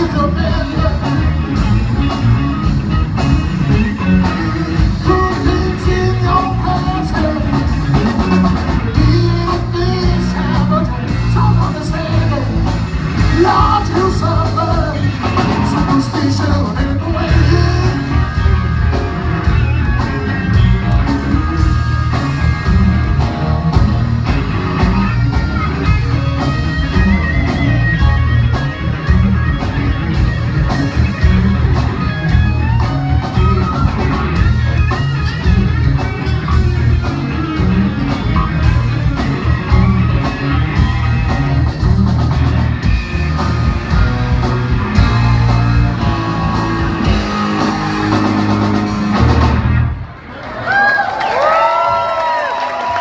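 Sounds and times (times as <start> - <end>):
electric guitar lead: 0.0 - 50.3
bass guitar: 0.0 - 53.0
drum kit: 0.0 - 53.0.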